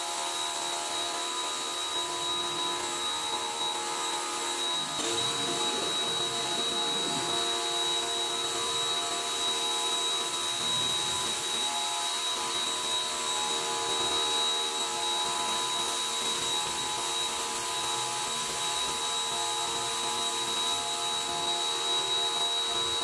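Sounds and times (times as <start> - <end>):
pressure washer whine: 0.0 - 23.0.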